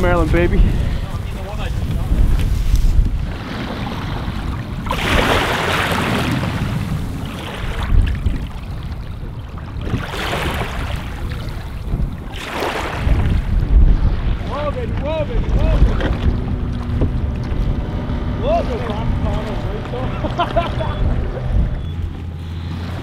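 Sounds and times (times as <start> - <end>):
waves splashing: 0.0 - 23.0
wind buffeting microphone: 0.0 - 23.0.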